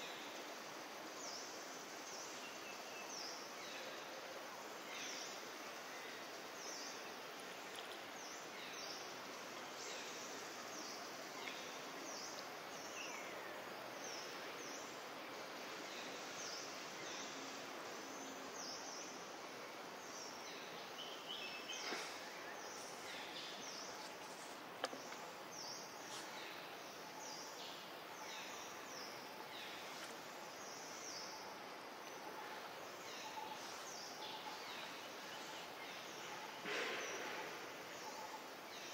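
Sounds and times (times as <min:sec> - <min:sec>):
faint outdoor hiss: 0:00.0 - 0:38.9
small birds chirping: 0:04.8 - 0:38.9.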